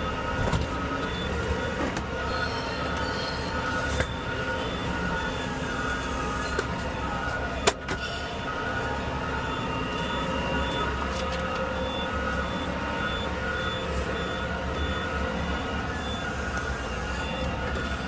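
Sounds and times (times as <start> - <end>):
heavy truck engine running: 0.0 - 18.0
truck reversing alarm beeps: 0.0 - 18.0.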